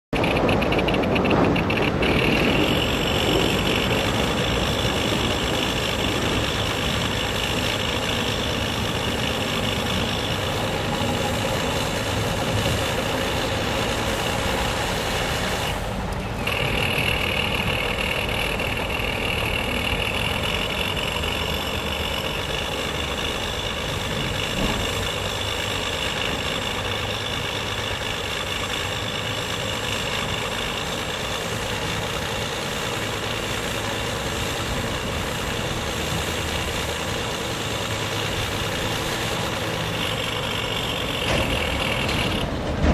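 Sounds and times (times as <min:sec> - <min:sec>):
road traffic hum: 0:00.0 - 0:42.9
synthesized engine over loudspeaker: 0:00.2 - 0:42.4.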